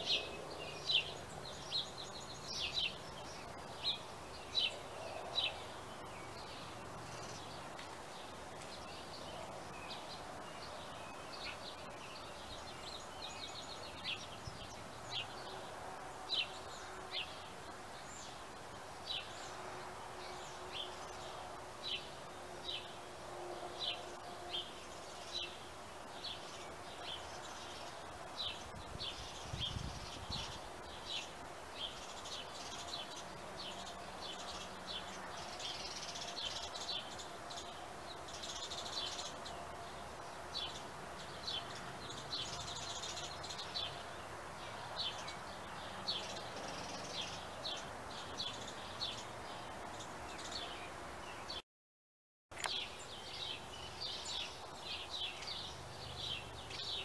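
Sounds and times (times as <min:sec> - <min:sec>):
songbirds chirping: 0:00.0 - 0:51.6, 0:52.5 - 0:57.0
steady background noise: 0:00.0 - 0:51.6.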